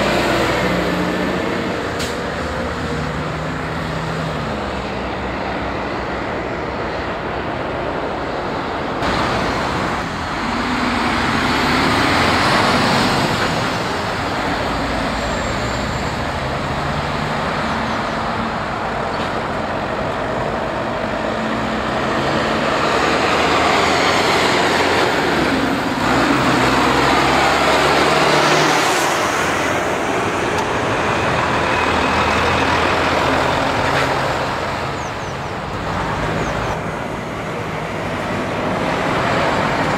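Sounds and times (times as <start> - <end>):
diesel trucks and cars driving past: 0.0 - 39.9
tyre and road noise: 0.0 - 39.9.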